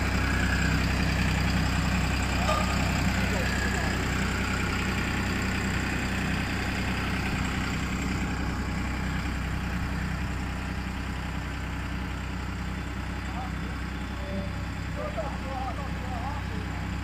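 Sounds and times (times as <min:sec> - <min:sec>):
road roller engine idling: 0:00.0 - 0:17.0.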